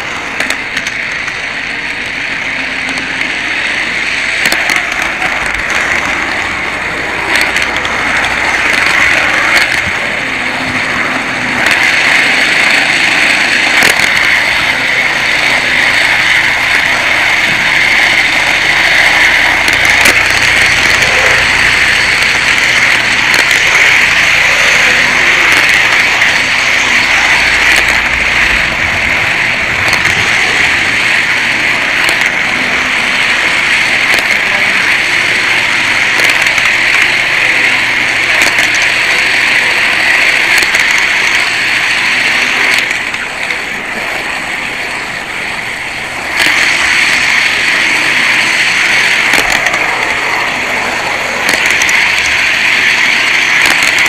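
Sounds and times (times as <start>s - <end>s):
model train motor whirring: 0.0s - 54.0s.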